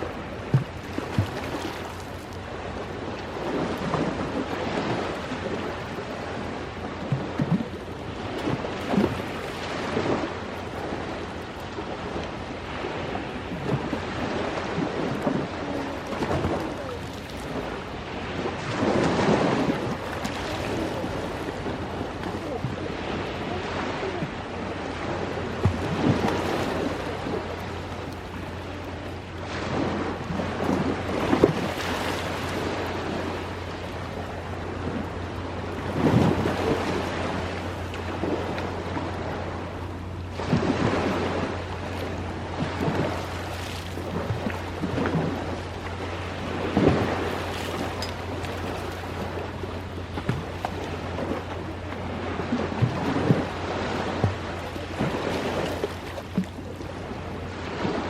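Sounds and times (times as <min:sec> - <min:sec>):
ocean surf washing: 0:00.0 - 0:58.0.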